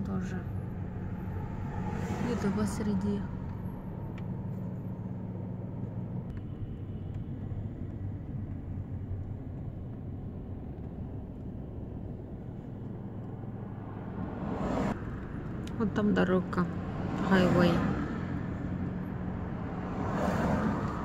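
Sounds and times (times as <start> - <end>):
car engine and road hum: 0.0 - 21.0.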